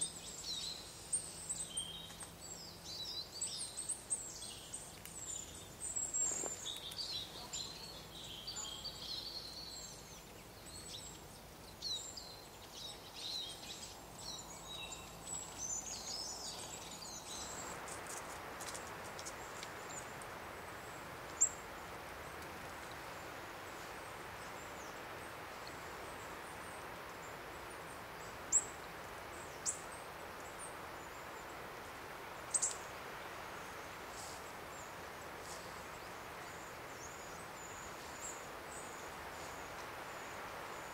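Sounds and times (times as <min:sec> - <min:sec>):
small birds chirping and calling: 0:00.0 - 0:31.7, 0:32.3 - 0:40.9
steady soft hiss: 0:00.0 - 0:40.9.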